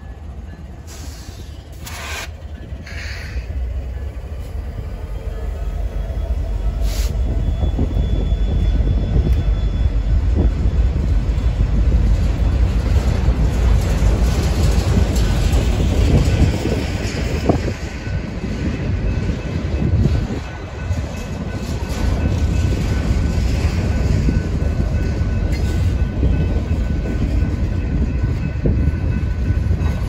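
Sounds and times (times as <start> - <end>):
freight train rumbling past: 0.0 - 30.0.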